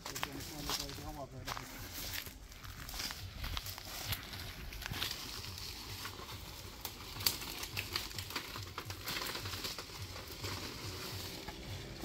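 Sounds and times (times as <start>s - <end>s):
leaves and twigs rustling: 0.0s - 12.0s
twigs snapping: 0.0s - 12.0s.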